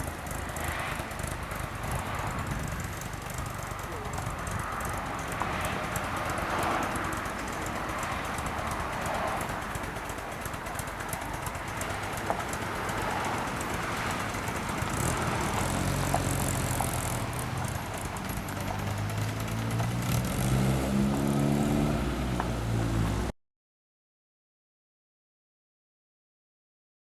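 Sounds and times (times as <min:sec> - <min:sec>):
car engine running: 0:00.0 - 0:23.3
outdoor background noise: 0:00.0 - 0:23.3.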